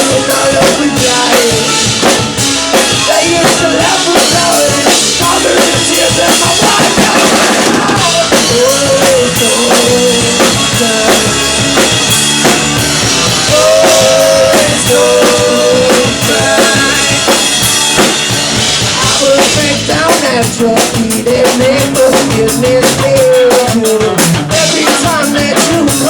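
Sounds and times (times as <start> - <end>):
drum kit beat: 0.0 - 26.0
live rock band playing: 0.0 - 26.0.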